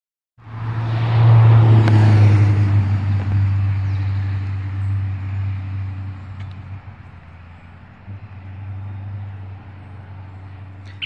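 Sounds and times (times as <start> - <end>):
vehicle engine humming: 0.4 - 11.0.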